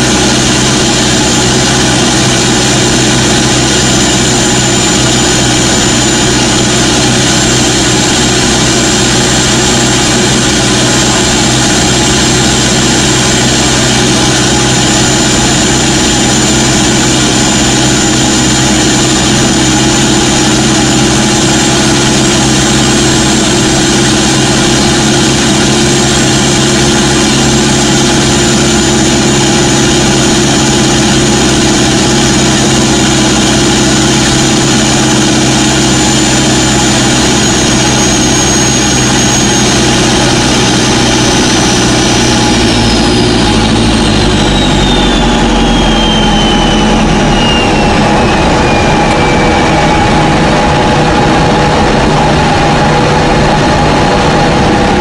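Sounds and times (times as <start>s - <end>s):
diesel engine cruising: 0.0s - 55.0s
thin high whine: 0.0s - 55.0s.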